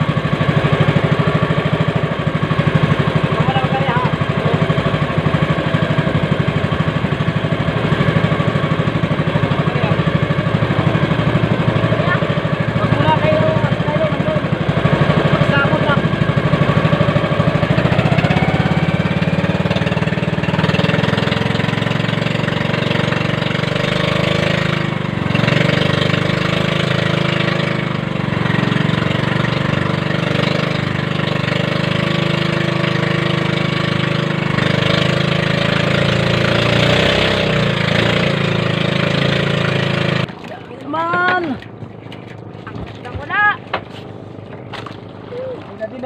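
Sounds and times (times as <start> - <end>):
boat engine running: 0.0 - 46.0.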